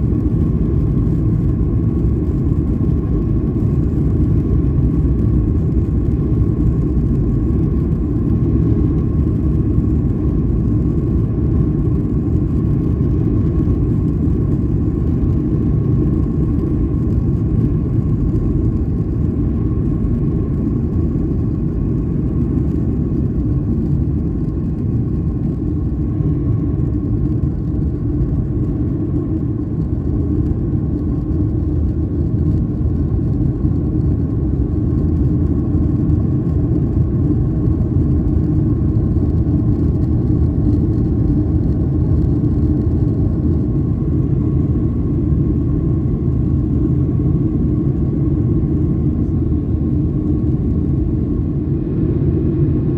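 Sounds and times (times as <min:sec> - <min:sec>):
jet engines rumbling in cabin: 0:00.0 - 0:52.9.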